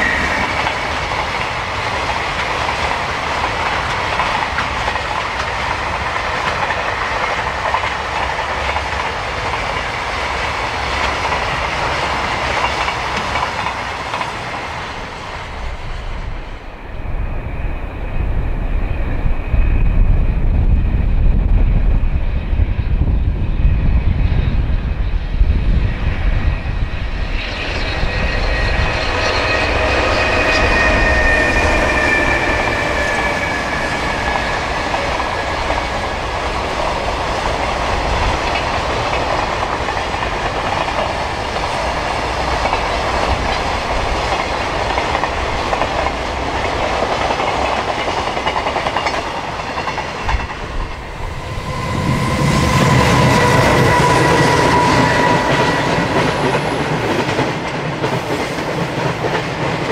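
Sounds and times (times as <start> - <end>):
train wheels clattering on rails: 0.0 - 16.6, 25.7 - 59.9
locomotive high whine: 0.0 - 59.0.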